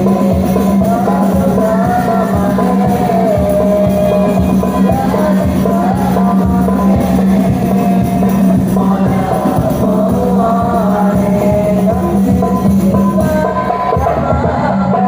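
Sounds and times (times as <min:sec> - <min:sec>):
child singing devotional song: 0:00.0 - 0:15.0.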